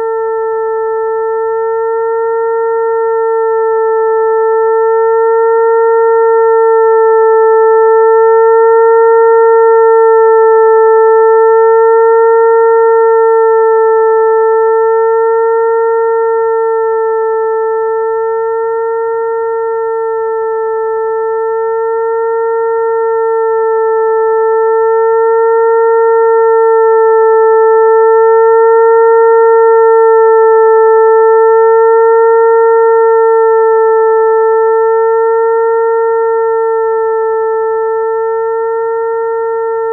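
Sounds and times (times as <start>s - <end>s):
electronic buzzing tone: 0.0s - 39.9s.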